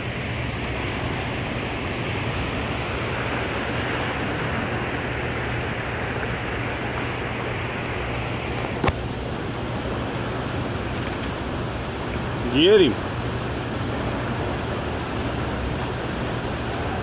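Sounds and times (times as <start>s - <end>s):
river current rushing: 0.0s - 17.0s.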